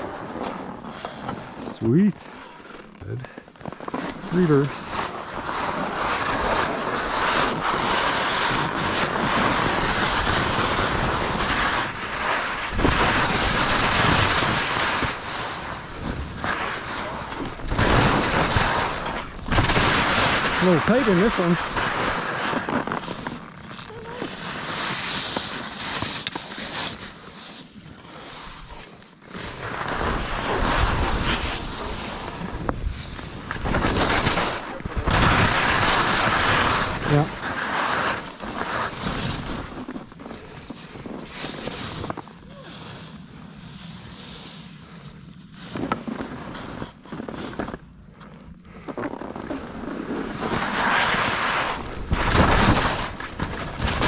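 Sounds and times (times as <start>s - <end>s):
skis scraping through snow: 0.0s - 48.0s, 48.7s - 54.0s.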